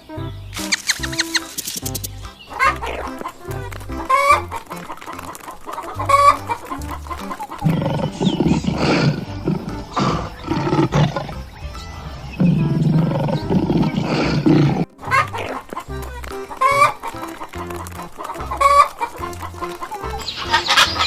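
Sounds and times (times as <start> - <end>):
background music: 0.0 - 21.0
chickens clucking: 0.0 - 21.0.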